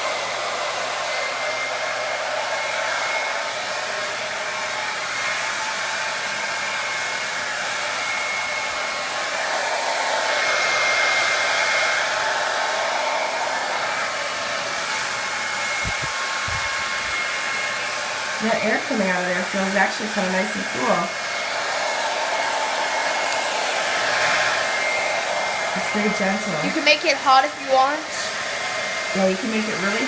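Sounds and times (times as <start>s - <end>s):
hair dryer blowing: 0.0s - 30.0s.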